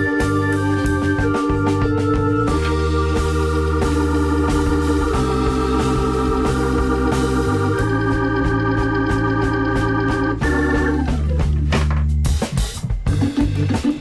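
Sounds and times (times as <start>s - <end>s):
organ-like keyboard chords: 0.0s - 14.0s
steady beat: 0.0s - 14.0s.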